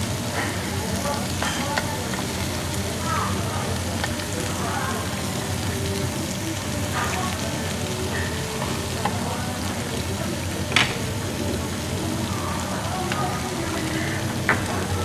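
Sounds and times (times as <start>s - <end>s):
meat sizzling on a grill pan: 0.0s - 15.0s.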